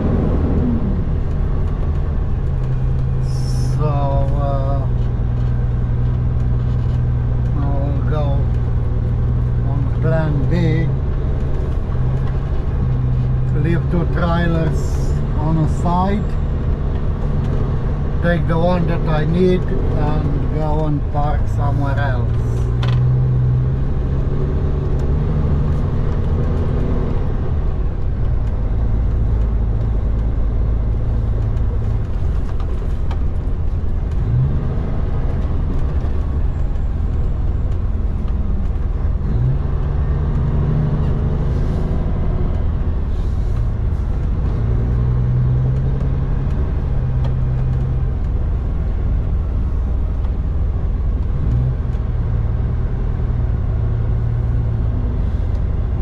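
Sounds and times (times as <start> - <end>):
truck diesel engine revving: 0.0 - 32.1, 33.2 - 56.0.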